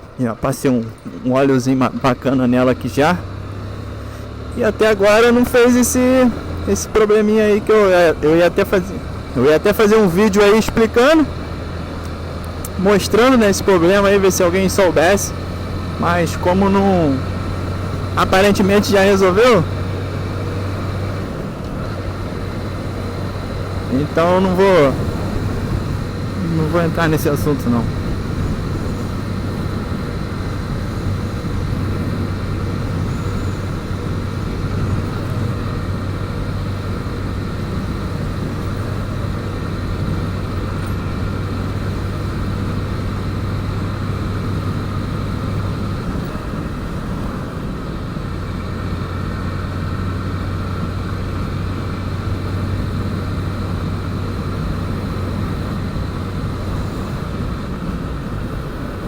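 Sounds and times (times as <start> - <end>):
road and wind noise: 0.0 - 59.0
motorcycle engine running: 0.9 - 59.0.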